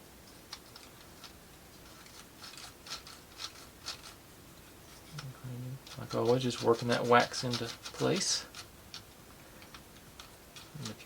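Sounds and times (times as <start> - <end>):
wooden parts rubbing and scraping: 0.0 - 11.0.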